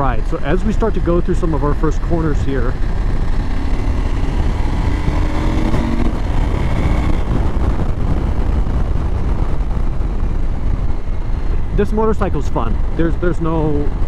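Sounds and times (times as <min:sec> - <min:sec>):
motorcycle engine accelerating: 0:00.0 - 0:13.0
wind rush over microphone: 0:00.0 - 0:14.0.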